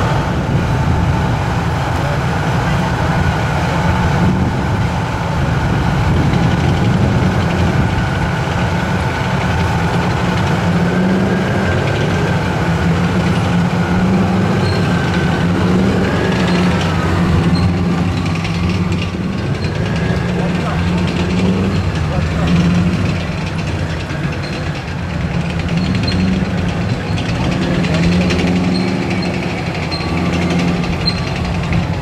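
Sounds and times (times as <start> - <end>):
tank diesel engines rumbling: 0.0 - 32.0.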